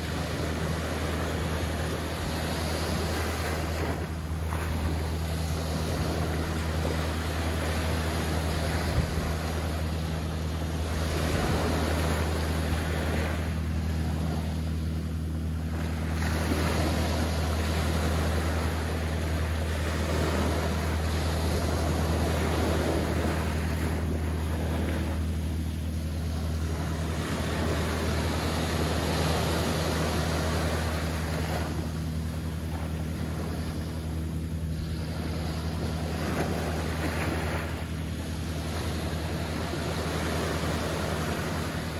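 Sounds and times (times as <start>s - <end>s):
gentle waves on sand beach: 0.0s - 41.9s
steady low hum: 0.0s - 41.9s.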